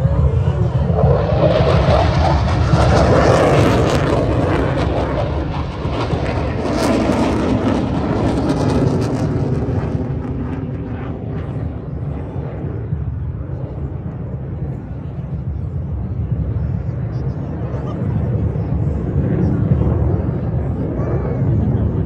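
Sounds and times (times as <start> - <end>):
fighter jet flying overhead: 0.0 - 22.0.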